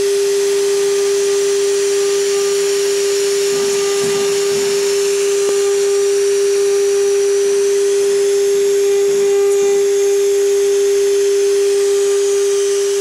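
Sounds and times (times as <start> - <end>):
engraving bit carving wood: 0.0 - 13.0
router spindle whine: 0.0 - 13.0.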